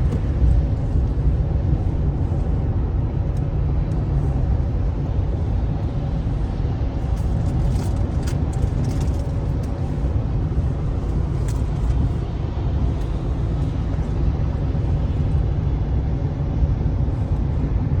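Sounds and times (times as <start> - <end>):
road and tyre rumble inside car: 0.0 - 18.0.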